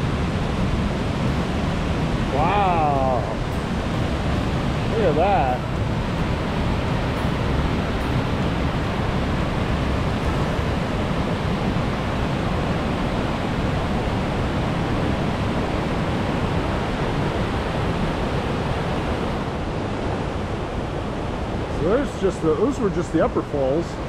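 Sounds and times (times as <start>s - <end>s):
river rushing over rocks: 0.0s - 23.1s.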